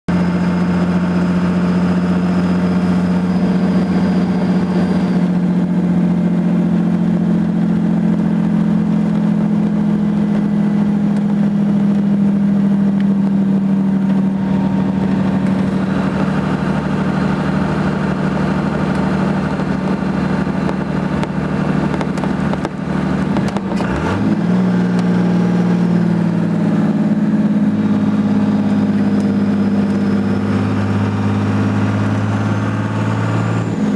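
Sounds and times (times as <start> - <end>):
diesel engine droning: 0.1 - 33.9.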